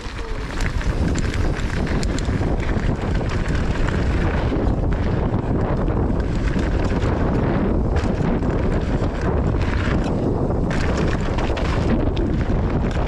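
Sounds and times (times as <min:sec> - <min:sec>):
bike clicks and rattles: 0:00.0 - 0:13.0
tyres rumbling over dirt: 0:00.0 - 0:13.0
wind buffeting microphone: 0:00.0 - 0:13.0.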